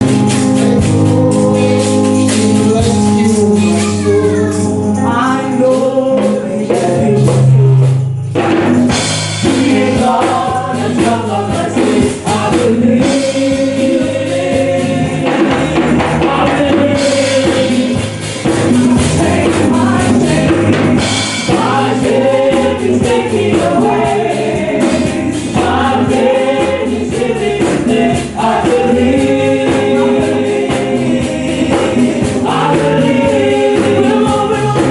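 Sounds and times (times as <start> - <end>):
band accompaniment: 0.0 - 34.9
choir singing gospel music: 0.0 - 34.9.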